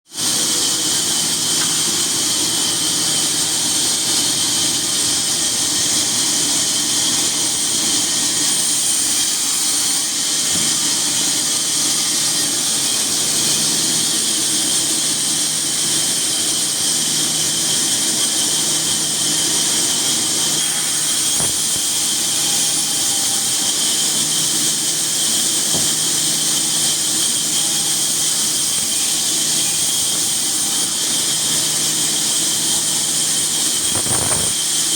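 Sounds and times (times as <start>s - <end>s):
sawmill saw hissing: 0.1s - 34.9s.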